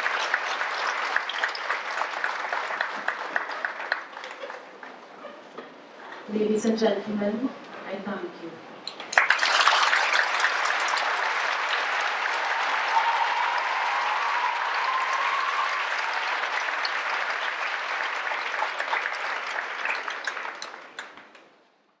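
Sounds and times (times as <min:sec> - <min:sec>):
audience applauding: 0:00.0 - 0:05.8, 0:08.9 - 0:21.6.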